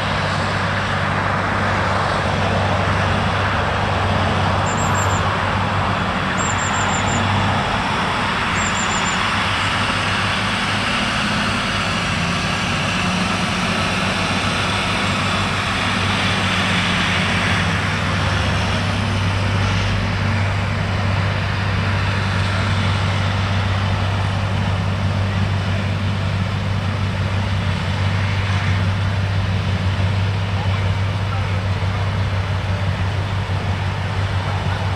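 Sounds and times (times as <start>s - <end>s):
heavy machinery engines running: 0.0s - 34.9s.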